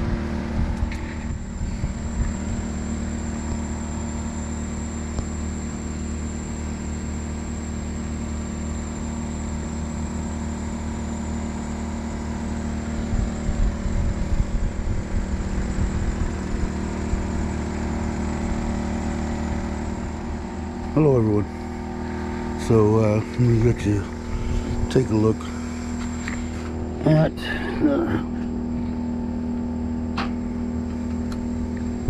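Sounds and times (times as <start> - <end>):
portable generator running: 0.0 - 32.0
thin high whine: 0.0 - 32.0.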